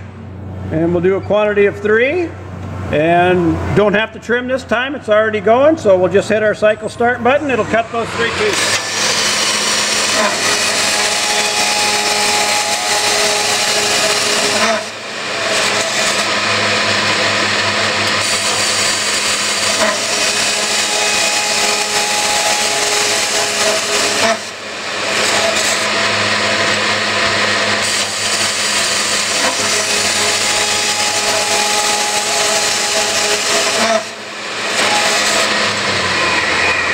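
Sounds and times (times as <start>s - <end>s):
circular cold saw cutting metal tube: 7.0s - 36.9s.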